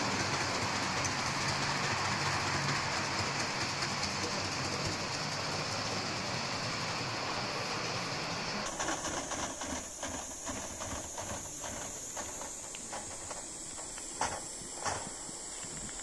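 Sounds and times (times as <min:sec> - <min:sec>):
model train wheels rolling: 0:00.0 - 0:16.0
steady hiss: 0:00.1 - 0:16.0.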